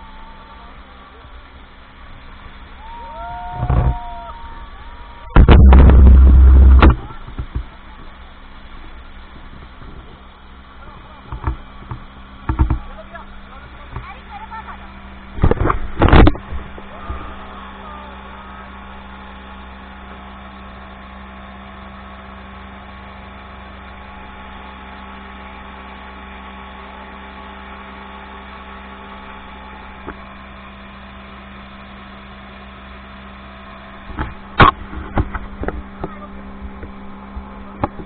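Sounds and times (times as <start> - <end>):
speedboat engine humming: 0.0 - 38.0.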